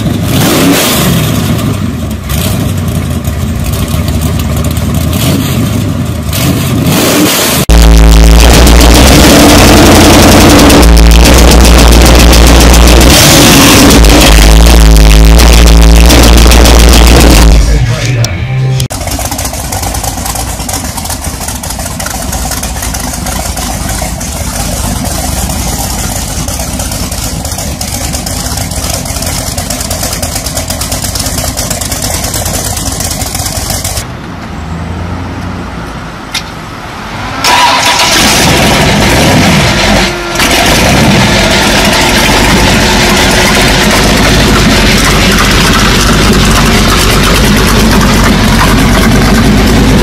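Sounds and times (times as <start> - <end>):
motorcycle engine running: 1.4 - 6.3, 7.6 - 18.2, 18.8 - 34.1, 39.8 - 50.0.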